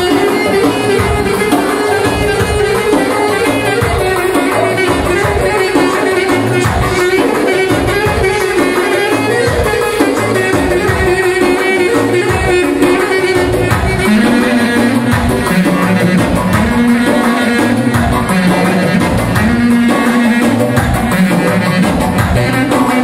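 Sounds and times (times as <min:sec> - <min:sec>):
loud dance music: 0:00.0 - 0:23.0.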